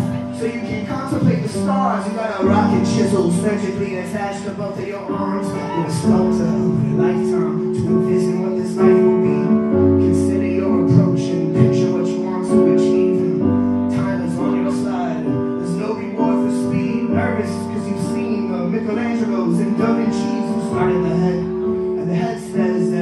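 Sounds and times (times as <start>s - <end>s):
deep bass notes: 0.0s - 23.0s
keyboard chords: 0.0s - 23.0s.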